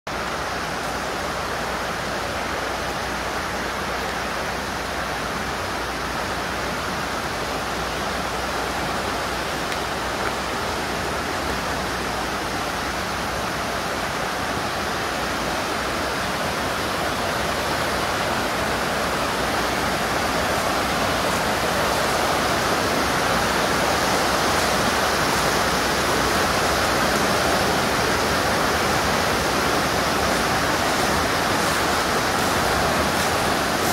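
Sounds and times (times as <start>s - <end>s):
river rapids rushing: 0.1s - 33.9s.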